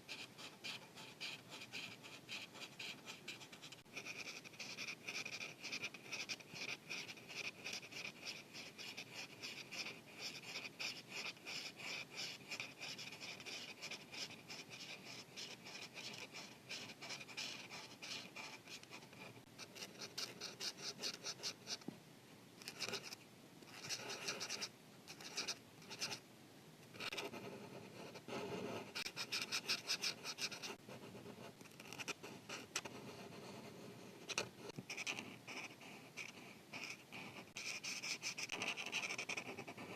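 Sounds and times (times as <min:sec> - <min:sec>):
marker scratching on paper: 0:00.0 - 0:21.8, 0:22.6 - 0:26.2, 0:27.0 - 0:39.9.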